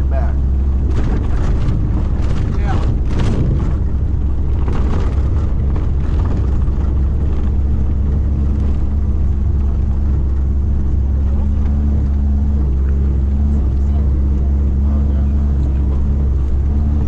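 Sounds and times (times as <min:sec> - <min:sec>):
engine hum: 0:00.0 - 0:17.0
vehicle low rumble: 0:00.0 - 0:17.0.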